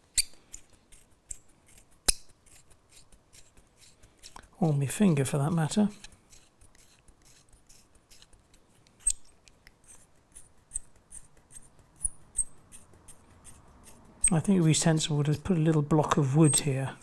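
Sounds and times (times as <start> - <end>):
hand drill scratching plastic: 0.0 - 15.1.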